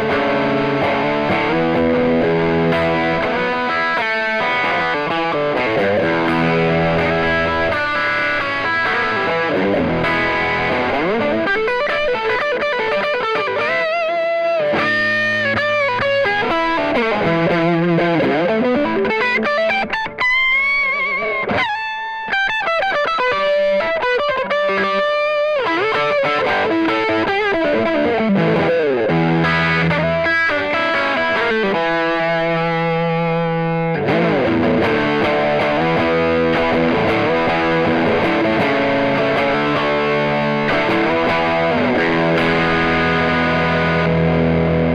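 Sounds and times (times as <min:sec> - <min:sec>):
distorted electric guitar: 0:00.0 - 0:44.9.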